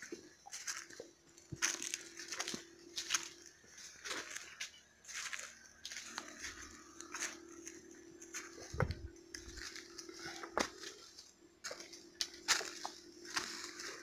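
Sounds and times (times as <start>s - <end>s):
footsteps crunching through leaves: 0.0s - 14.0s
twigs cracking: 0.5s - 14.0s.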